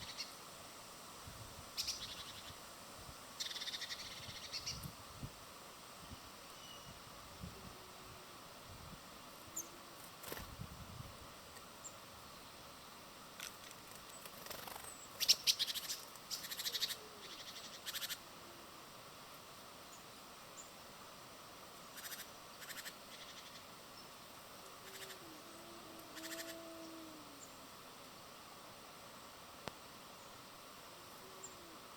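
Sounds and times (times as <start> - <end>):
steady hiss: 0.0 - 31.9.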